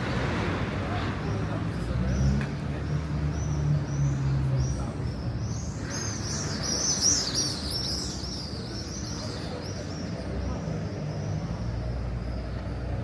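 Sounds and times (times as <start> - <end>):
street traffic murmur: 0.0 - 13.0.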